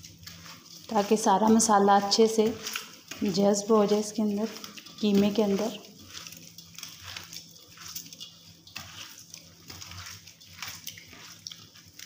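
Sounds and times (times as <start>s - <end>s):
hand squelching wet minced meat: 0.0s - 12.0s.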